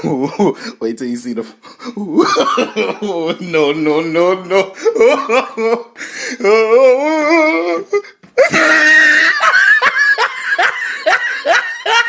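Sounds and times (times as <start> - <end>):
man laughing hysterically: 1.9 - 12.0.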